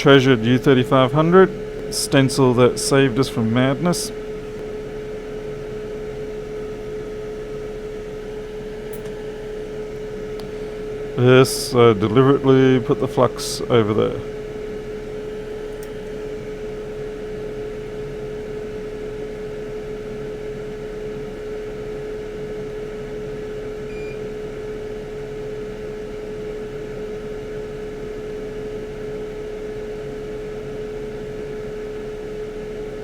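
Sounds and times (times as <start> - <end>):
electric blower fan whirring: 0.0 - 33.0.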